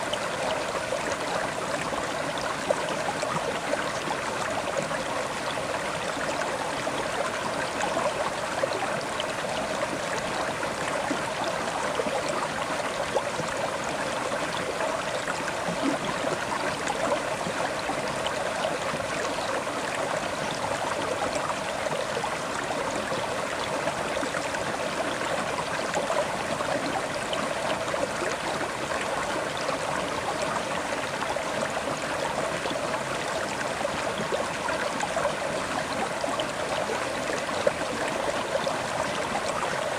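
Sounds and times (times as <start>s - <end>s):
river water over stones: 0.0s - 39.9s.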